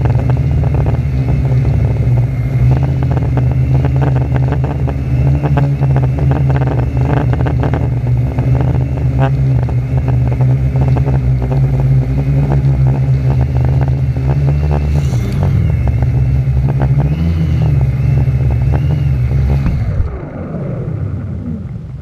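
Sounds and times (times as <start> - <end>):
quadcopter motors whirring: 0.0 - 22.0.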